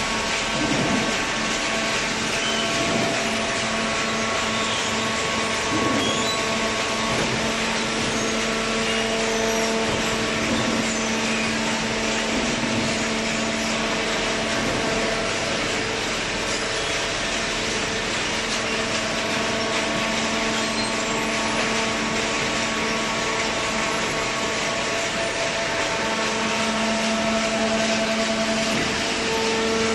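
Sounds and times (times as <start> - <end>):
baler machine humming: 0.0 - 29.9.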